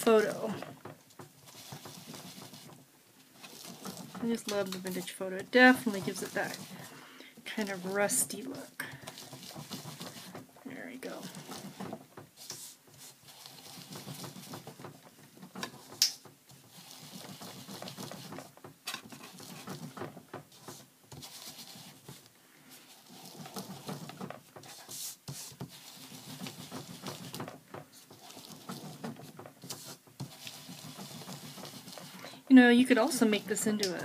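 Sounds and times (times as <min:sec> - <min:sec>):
foam applicator scuffing paper: 0:01.4 - 0:02.8, 0:03.4 - 0:32.3.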